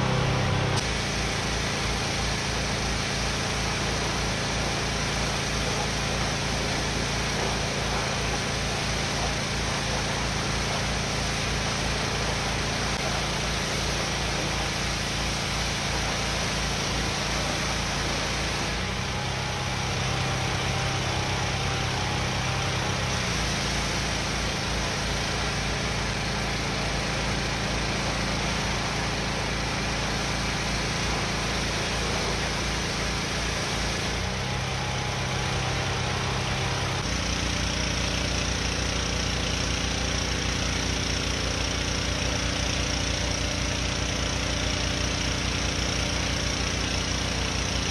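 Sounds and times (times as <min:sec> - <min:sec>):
pressure washer motor hum: 0:00.0 - 0:47.9.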